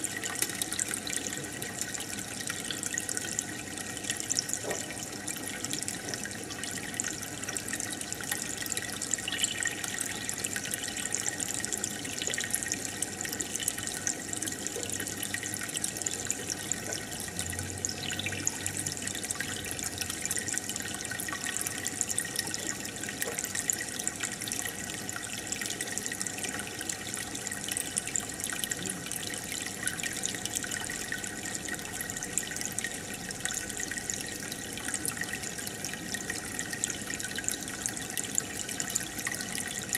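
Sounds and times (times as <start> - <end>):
aquarium water bubbling: 0.0 - 39.9.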